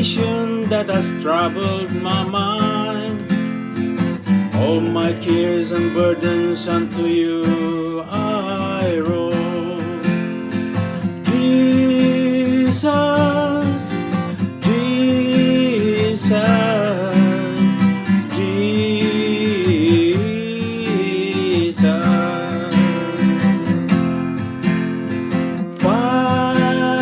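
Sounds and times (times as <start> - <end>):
person singing: 0.0 - 3.3, 4.5 - 10.2, 11.2 - 23.9, 25.7 - 27.0
strummed acoustic guitar: 0.0 - 27.0.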